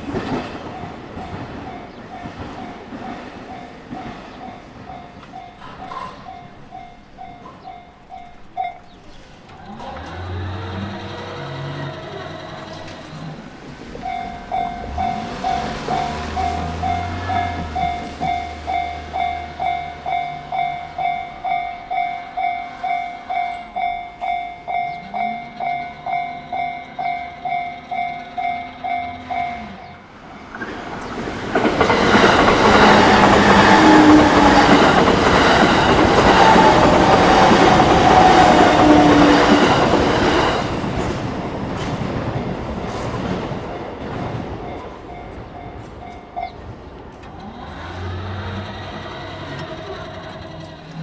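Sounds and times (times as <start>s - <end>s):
level crossing bell clanging: 0.0s - 47.5s
train wheels clattering: 0.0s - 51.0s
train whine: 0.0s - 51.0s.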